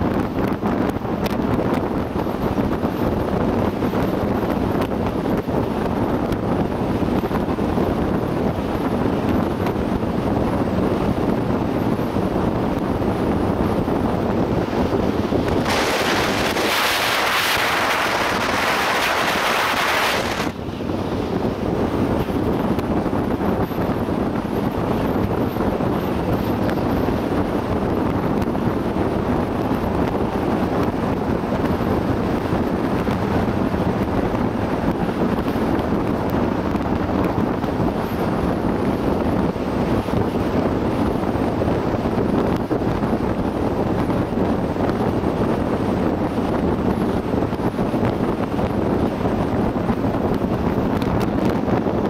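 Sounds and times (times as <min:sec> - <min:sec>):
vehicle road and engine noise: 0:00.0 - 0:52.0
wind rushing over microphone: 0:00.0 - 0:52.0.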